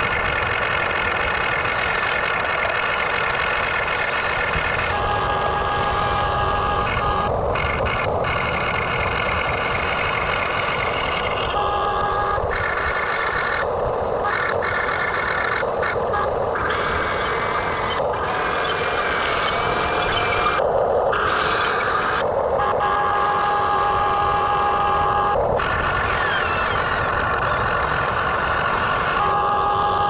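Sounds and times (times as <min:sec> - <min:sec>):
toy excavator whining drone: 0:00.0 - 0:30.0.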